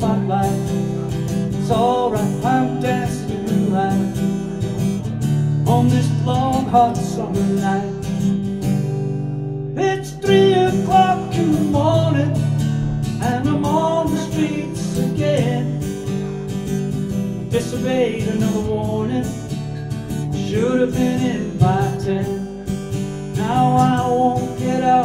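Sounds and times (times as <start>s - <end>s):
man singing: 0.0s - 4.5s, 5.6s - 8.2s, 9.8s - 16.4s, 17.4s - 25.0s
strummed acoustic guitar: 0.0s - 25.0s.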